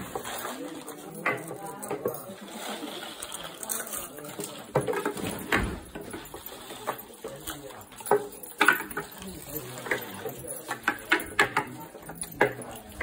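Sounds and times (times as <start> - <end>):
cardboard tubes knocking and rustling: 0.0 - 13.0.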